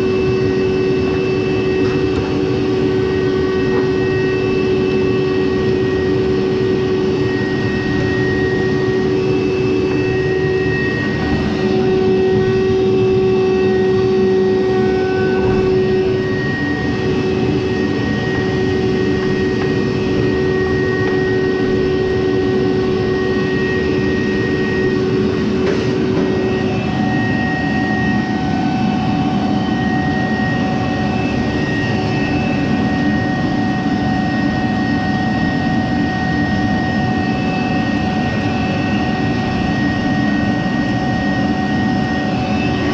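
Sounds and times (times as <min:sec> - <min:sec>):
clothes dryer humming: 0:00.0 - 0:37.3, 0:38.3 - 0:42.9.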